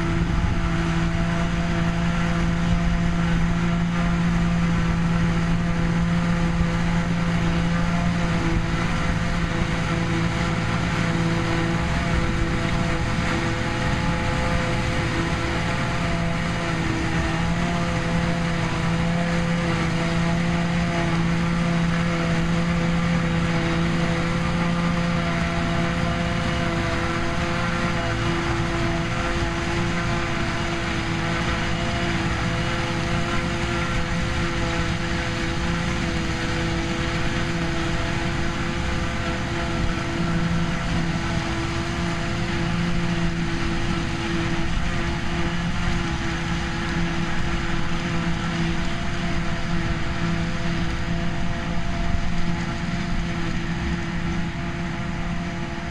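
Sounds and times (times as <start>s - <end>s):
forage harvester droning: 0.0s - 55.9s
tractor engine running: 0.0s - 55.9s.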